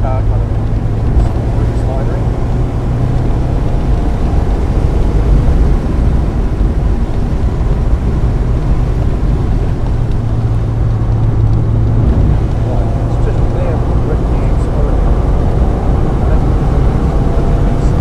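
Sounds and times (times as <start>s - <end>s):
car engine running under load: 0.0s - 18.0s
road and wet tyre noise: 0.0s - 18.0s.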